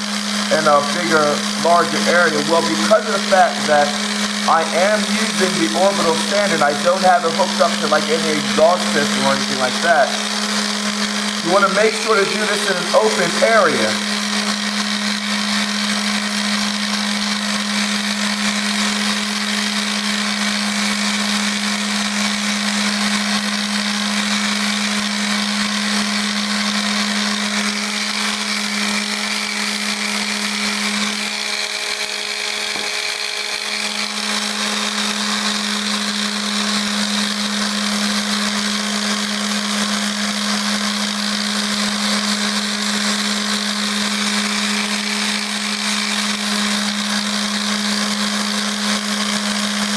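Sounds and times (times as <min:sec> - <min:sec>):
electric sander humming: 0:00.0 - 0:49.9.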